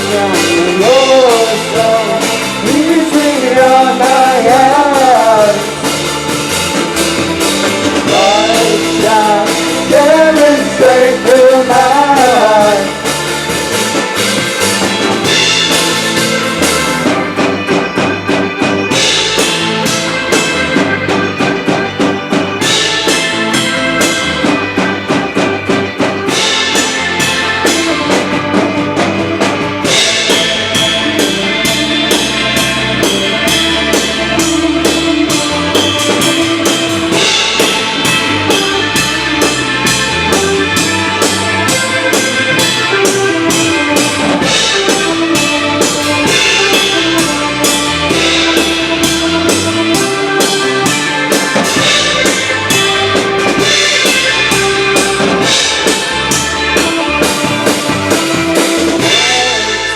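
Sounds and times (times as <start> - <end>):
drum kit beat: 0.0 - 59.9
live rock band playing: 0.0 - 59.9.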